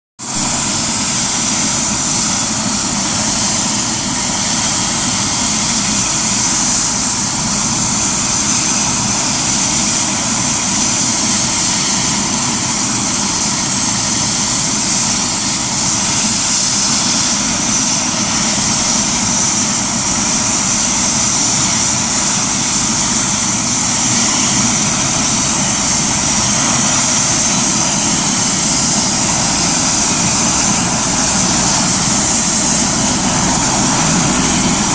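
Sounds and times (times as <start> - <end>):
helicopter rotor noise: 0.2 - 34.9
helicopter turbine whine: 0.2 - 34.9.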